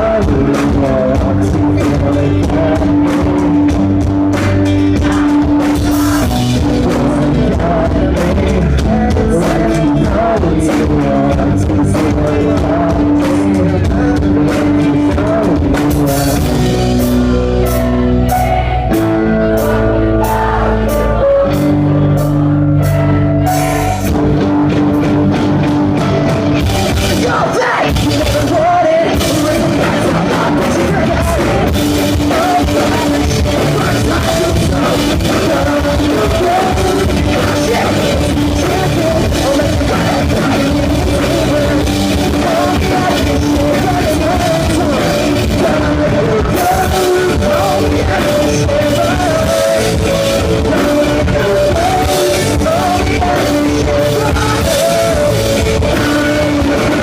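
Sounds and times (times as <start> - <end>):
bass: 0.0 - 57.0
distorted guitars: 0.0 - 57.0
drum kit: 0.0 - 57.0
person singing: 0.0 - 57.0.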